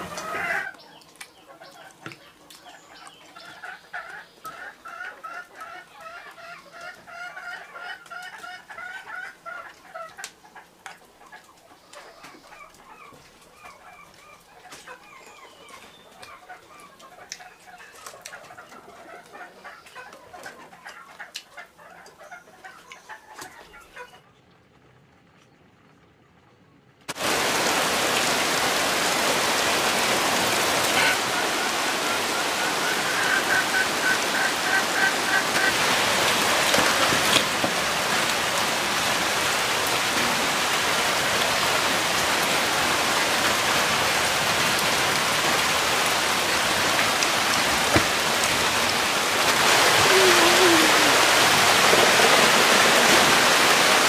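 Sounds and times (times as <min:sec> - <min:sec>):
chickens clucking: 0:00.0 - 0:24.3, 0:30.4 - 0:40.4, 0:44.1 - 0:54.0.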